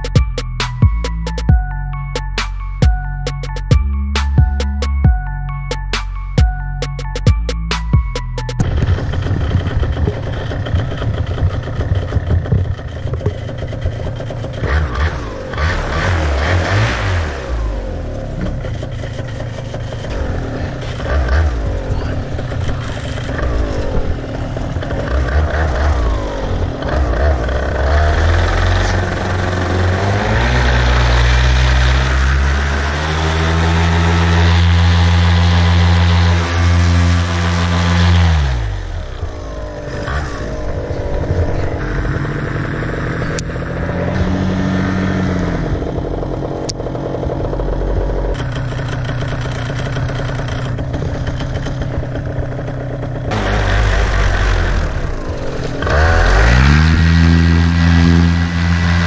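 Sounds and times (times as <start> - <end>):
paramotor engine revving: 8.6 - 59.0.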